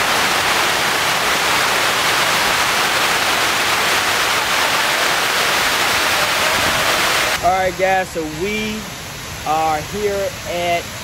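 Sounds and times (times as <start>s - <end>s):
waterfall fountain rushing: 0.0s - 11.0s.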